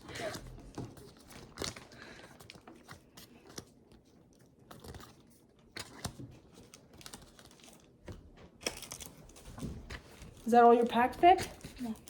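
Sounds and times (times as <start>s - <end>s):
cards and wrappers rustling: 0.0s - 12.0s.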